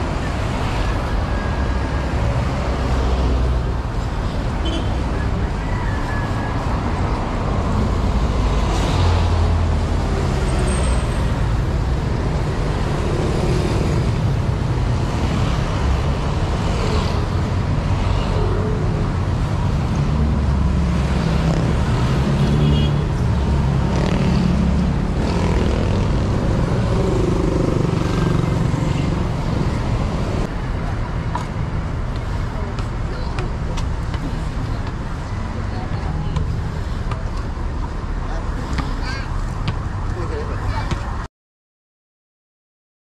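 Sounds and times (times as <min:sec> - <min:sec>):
heavy road traffic: 0:00.0 - 0:41.3.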